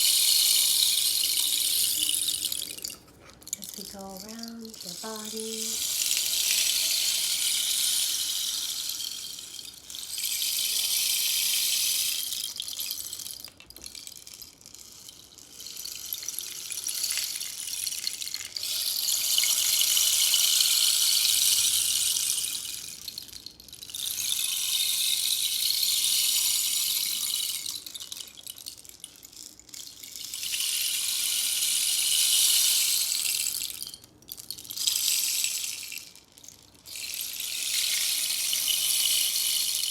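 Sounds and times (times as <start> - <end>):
rain stick pellets trickling: 0.0 - 39.9.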